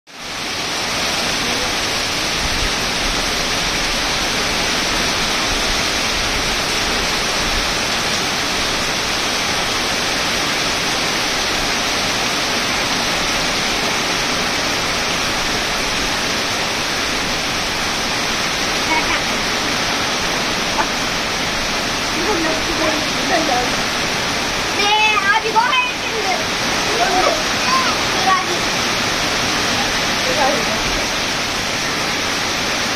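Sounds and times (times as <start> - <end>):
heavy rain on trees and gravel: 0.1 - 32.9.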